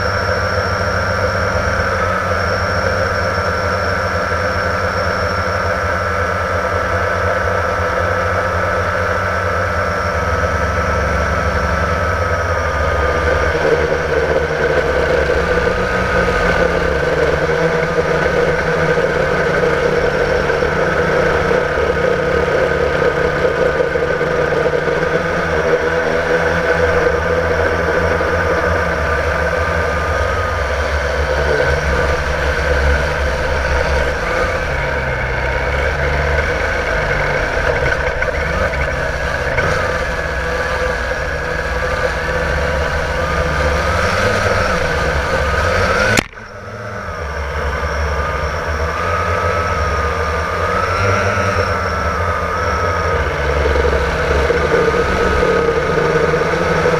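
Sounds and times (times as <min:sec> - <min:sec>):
quadcopter motors whining: 0:00.0 - 0:56.9.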